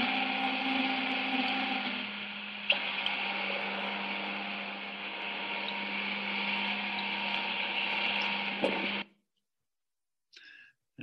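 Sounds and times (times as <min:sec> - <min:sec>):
machine hum: 0:00.0 - 0:09.1.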